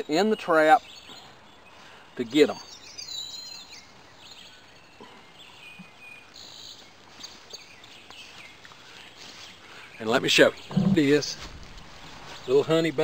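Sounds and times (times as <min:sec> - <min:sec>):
faint birds chirping: 0:00.0 - 0:13.0
outdoor background hiss: 0:00.0 - 0:13.0.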